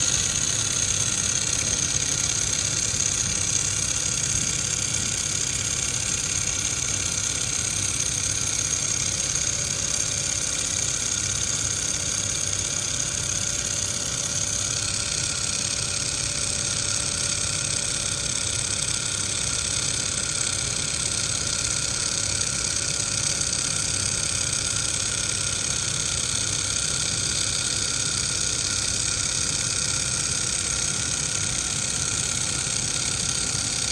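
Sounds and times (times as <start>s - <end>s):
welding machine hum and hiss: 0.0s - 33.9s.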